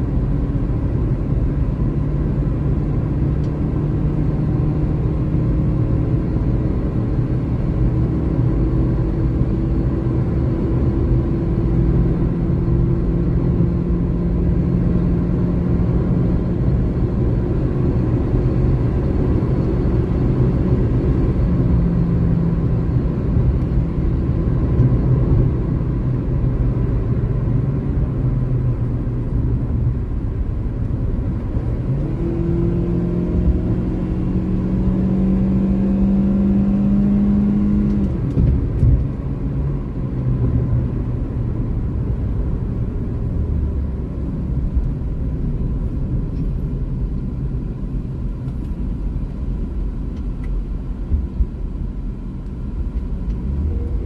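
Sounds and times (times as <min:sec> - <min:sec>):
car engine: 0:00.0 - 0:54.0.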